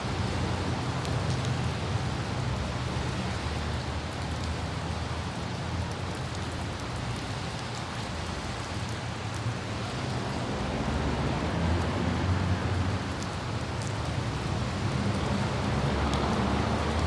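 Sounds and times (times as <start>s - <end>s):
city traffic rumble: 0.0s - 17.0s
droplet ticks: 0.0s - 17.0s
light rain falling: 0.0s - 17.0s
wind: 0.0s - 17.0s.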